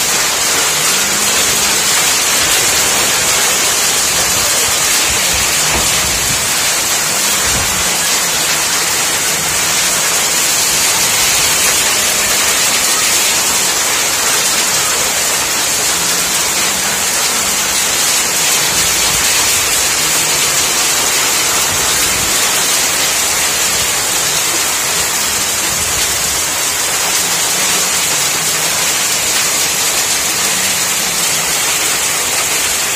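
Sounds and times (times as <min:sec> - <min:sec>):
heavy rain and hail on a roof: 0:00.0 - 0:32.9.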